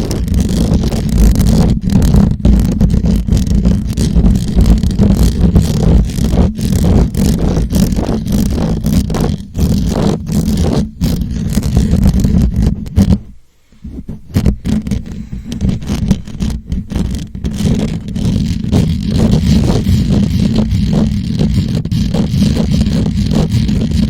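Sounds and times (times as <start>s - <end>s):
scratching on microphone: 0.0s - 24.0s.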